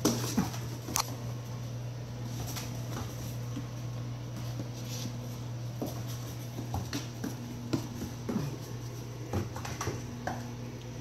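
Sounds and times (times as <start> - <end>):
paws scuffling on vinyl floor: 0.0 - 11.0
steady low hum: 0.0 - 11.0.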